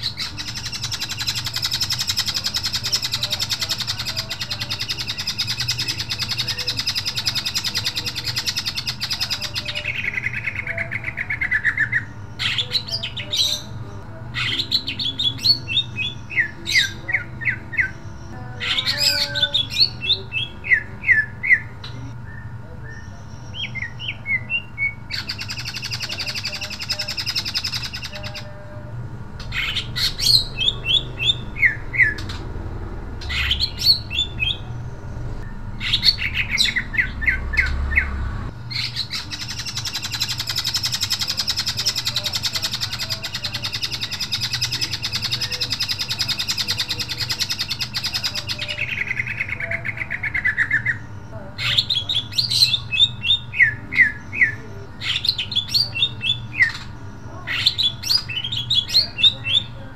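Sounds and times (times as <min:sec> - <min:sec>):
bird rapid chattering: 0:00.0 - 0:28.6, 0:29.4 - 0:59.9
bird song: 0:00.0 - 0:59.9.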